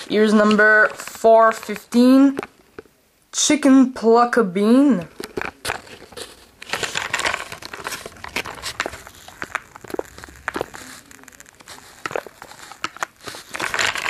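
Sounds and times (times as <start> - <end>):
plastic blister packaging crinkling: 0.0 - 2.9, 5.0 - 14.0.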